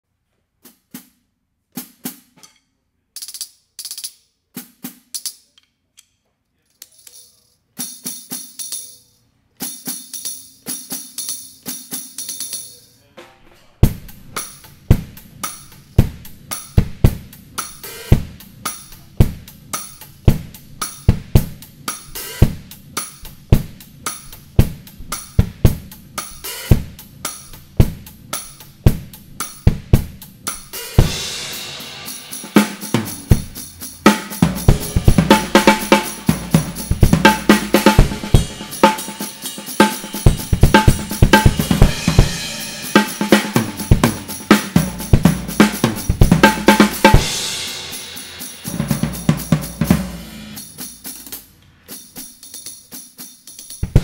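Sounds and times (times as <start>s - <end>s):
drum kit groove: 0.6s - 2.6s, 3.2s - 5.6s, 6.9s - 9.0s, 9.6s - 54.0s
tambourine struck with drumsticks: 3.2s - 5.7s, 6.8s - 54.0s.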